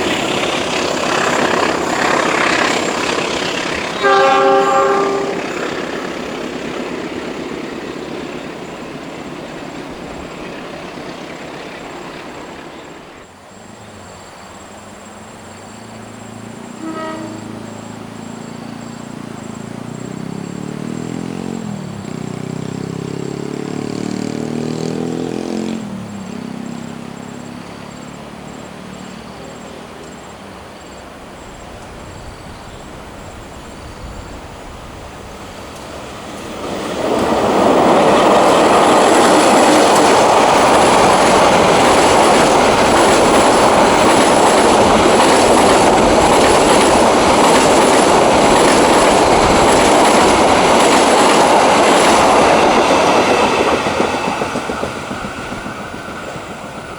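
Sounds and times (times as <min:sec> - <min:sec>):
diesel locomotive engine drone: 0:00.0 - 0:56.9
train rushing past: 0:00.0 - 0:56.9.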